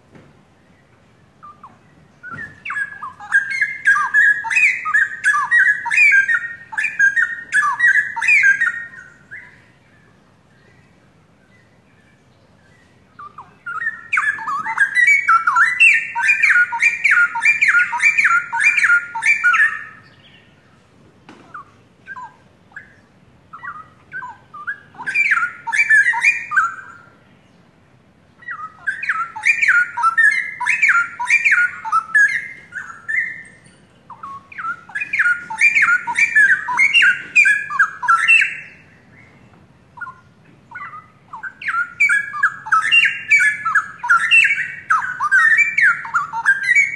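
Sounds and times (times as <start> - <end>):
bird warbling song: 0.0 - 46.9.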